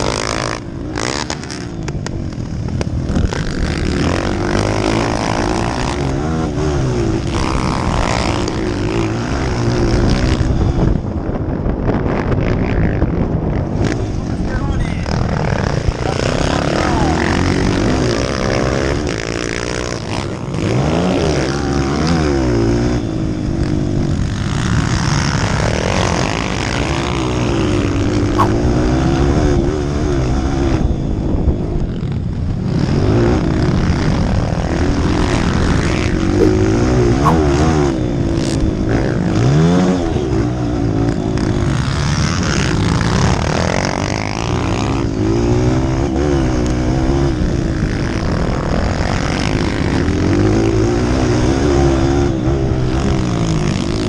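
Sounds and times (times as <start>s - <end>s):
dirt bike engine revving: 0.0s - 10.9s, 14.9s - 30.9s, 32.6s - 54.0s
wind rushing over microphone: 0.0s - 54.0s.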